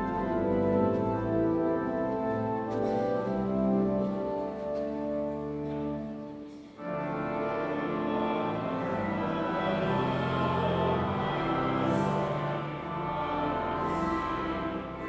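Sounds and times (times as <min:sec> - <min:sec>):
slow orchestral music: 0:00.0 - 0:15.0.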